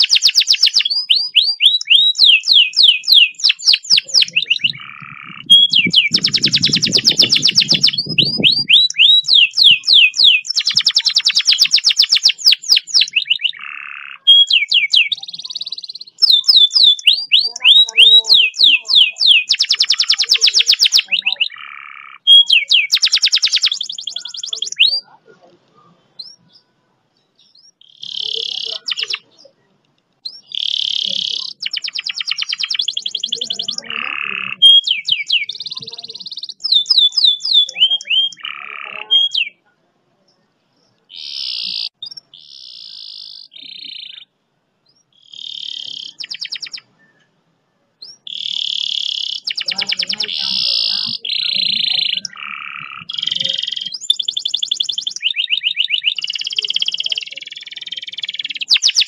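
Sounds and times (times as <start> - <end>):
canary singing: 0.0 - 39.7, 40.3 - 47.4, 48.0 - 59.0.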